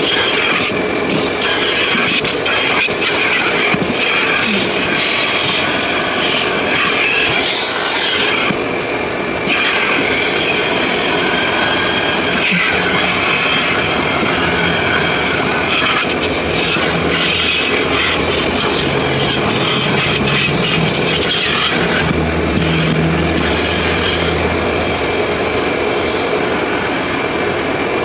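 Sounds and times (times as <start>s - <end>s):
car wash machine rushing: 0.0s - 28.0s.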